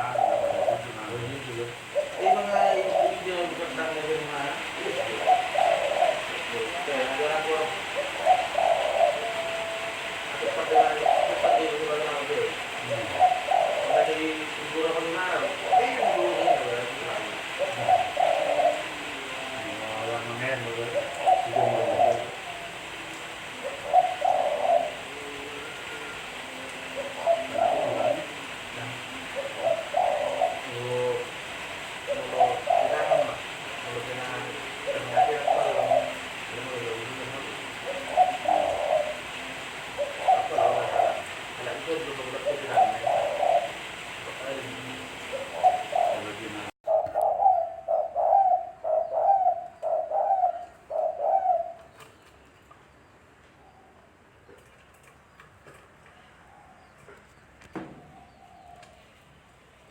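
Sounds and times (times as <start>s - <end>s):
dove cooing: 0.0s - 52.1s.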